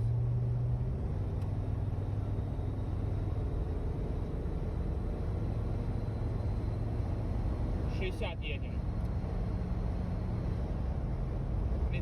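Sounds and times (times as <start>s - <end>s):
van engine droning: 0.0s - 12.0s.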